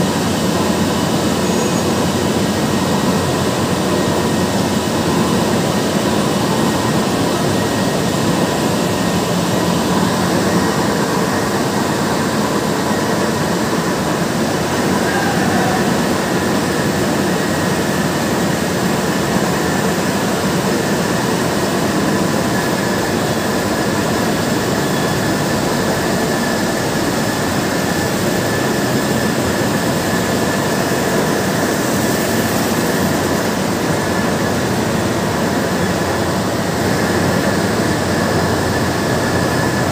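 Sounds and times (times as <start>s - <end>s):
faint machine whine: 0.0s - 39.9s
machinery droning: 0.0s - 39.9s.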